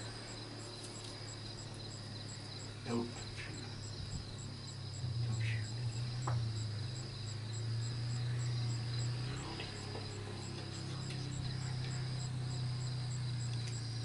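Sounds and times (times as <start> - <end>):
insect chirping: 0.0 - 14.0
low drone: 0.0 - 14.0
pulsing insect trill: 0.0 - 14.0.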